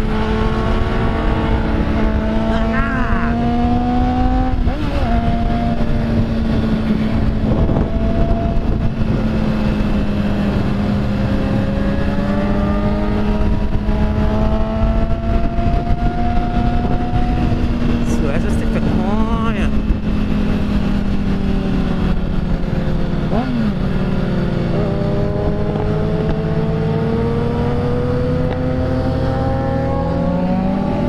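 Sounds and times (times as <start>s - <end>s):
motorcycle engine running: 0.0s - 31.0s
wind rumble on microphone: 0.0s - 31.0s.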